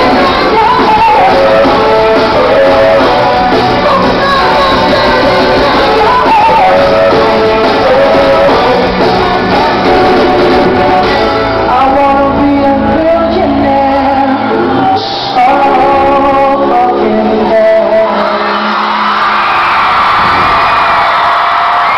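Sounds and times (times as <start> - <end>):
man singing: 0.0 - 19.2
live rock band playing: 0.0 - 21.9.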